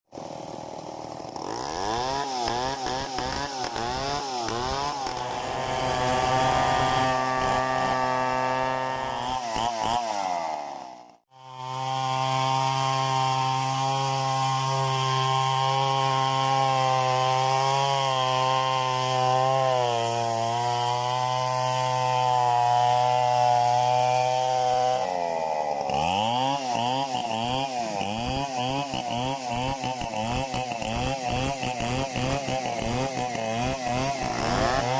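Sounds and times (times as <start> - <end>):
chainsaw revving and cutting wood: 0.1 - 34.9.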